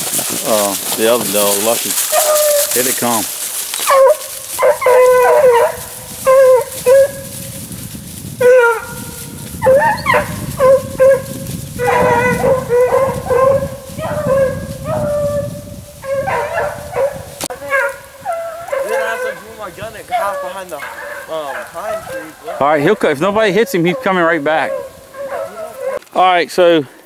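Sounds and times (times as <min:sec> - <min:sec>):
hounds baying: 0:01.0 - 0:07.7, 0:08.4 - 0:26.0.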